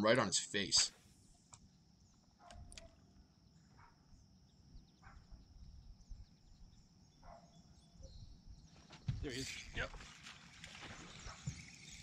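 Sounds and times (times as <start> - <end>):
insect chirps: 0.1 - 12.0
insect chorus high drone: 0.1 - 12.0.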